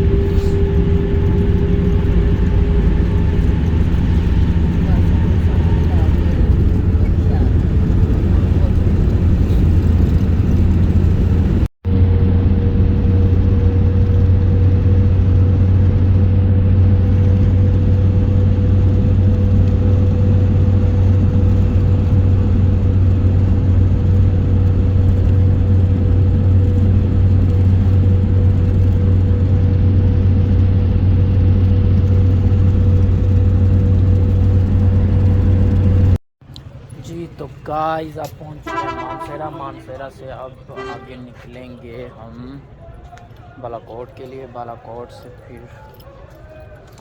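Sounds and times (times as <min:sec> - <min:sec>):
vehicle engine and road noise: 0:00.0 - 0:47.0.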